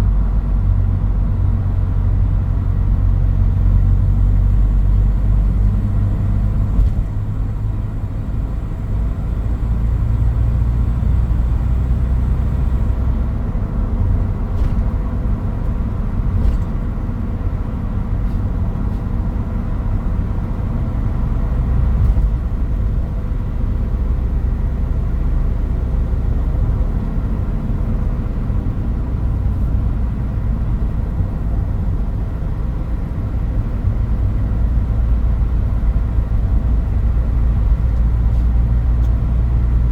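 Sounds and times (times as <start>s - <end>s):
road noise inside cab: 0.0s - 39.9s.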